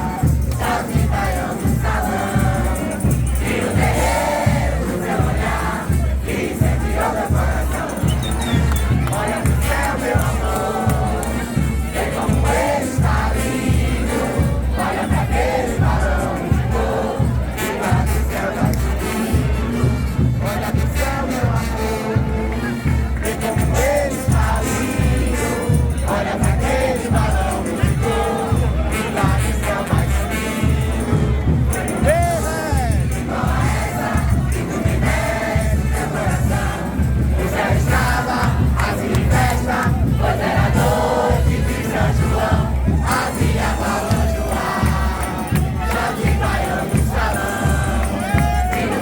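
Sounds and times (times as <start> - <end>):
festive folk music: 0.0 - 49.0
low drum beat: 0.0 - 49.0
many voices singing together: 0.0 - 49.0.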